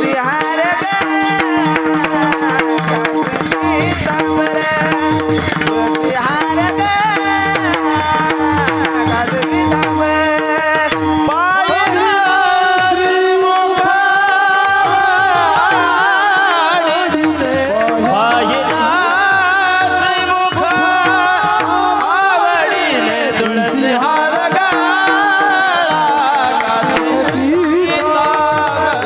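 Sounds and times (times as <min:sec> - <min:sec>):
person singing devotional song: 0:00.0 - 0:29.0.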